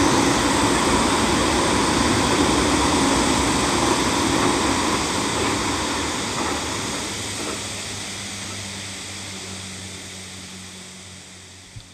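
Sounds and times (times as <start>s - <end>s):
passing train running noise: 0.0s - 11.6s.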